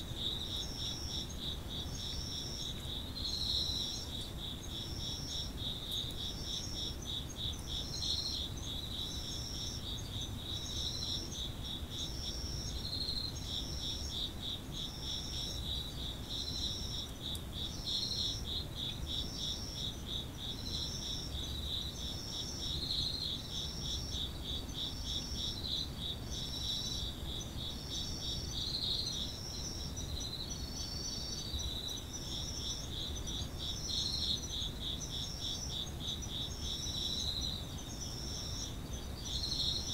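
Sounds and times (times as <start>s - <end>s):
insect chirp: 0.0s - 39.9s
insects trilling: 0.0s - 39.9s.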